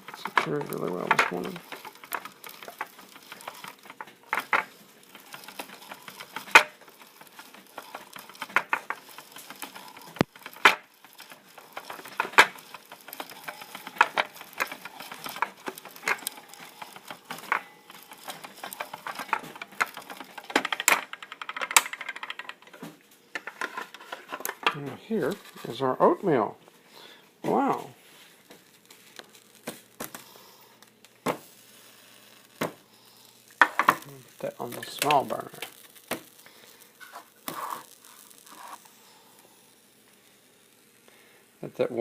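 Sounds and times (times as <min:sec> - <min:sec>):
hand oat roller clicks and crackles: 0:00.0 - 0:25.9, 0:27.5 - 0:42.0.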